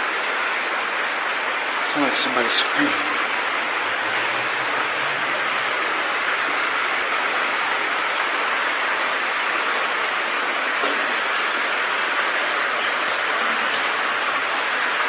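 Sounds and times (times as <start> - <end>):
water rushing through a tunnel: 0.0 - 15.0.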